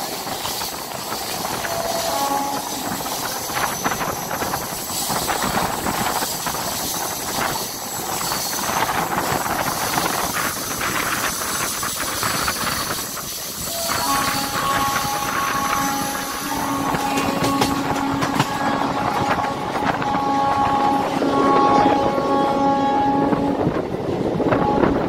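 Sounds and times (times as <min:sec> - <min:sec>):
rush of wind: 0:00.0 - 0:25.0
train wheels on rails: 0:00.0 - 0:25.0.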